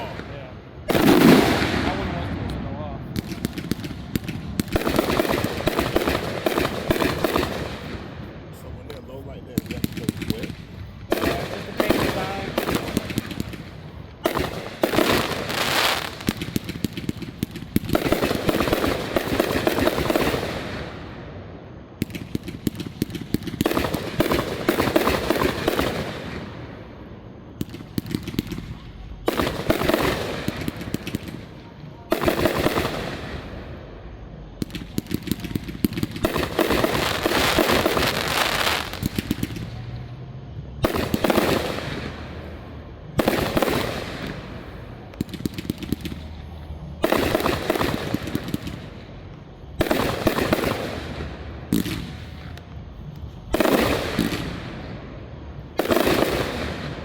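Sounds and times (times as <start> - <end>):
fireworks crackling bursts: 0.0 - 57.0.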